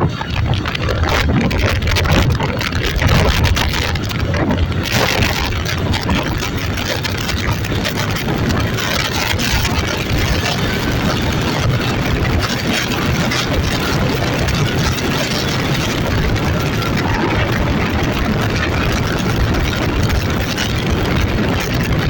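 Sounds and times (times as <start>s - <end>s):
vehicle running noise: 0.0s - 22.0s
wind on microphone: 0.0s - 22.0s.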